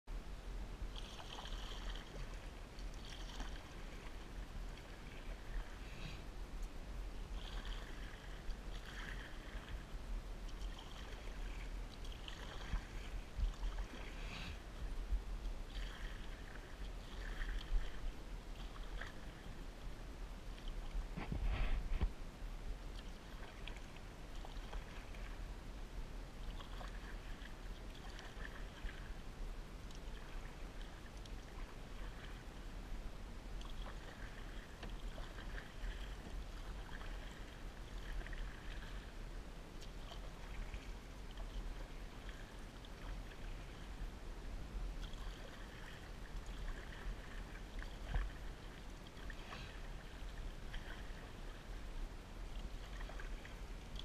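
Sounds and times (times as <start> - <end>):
steady low rumble: 0.1 - 54.0
paddle swishing through water: 0.8 - 54.0
water trickling off paddle blade: 0.9 - 22.2, 22.8 - 25.5, 26.3 - 44.2, 44.9 - 54.0.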